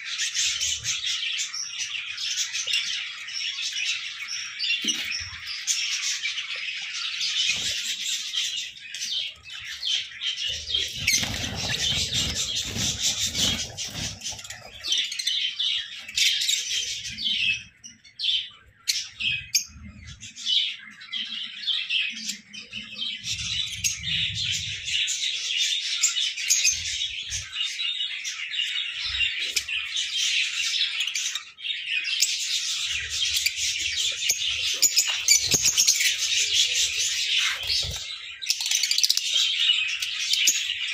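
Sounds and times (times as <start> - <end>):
lovebirds chattering: 0.0 - 40.9.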